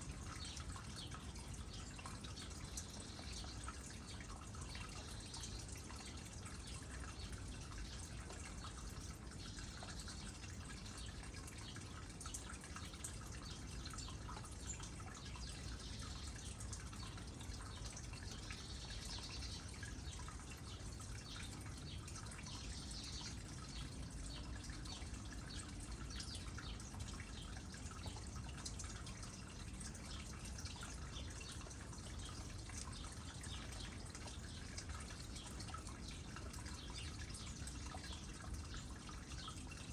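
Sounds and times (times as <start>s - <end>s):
small drips pattering: 0.0s - 39.9s
water trickling into pond: 0.0s - 39.9s.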